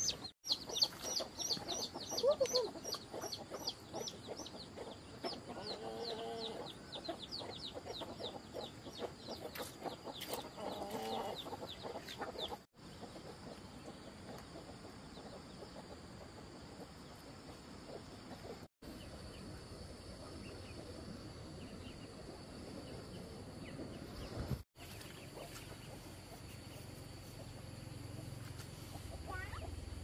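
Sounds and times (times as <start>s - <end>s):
poultry clucking and peeping: 0.0s - 30.0s.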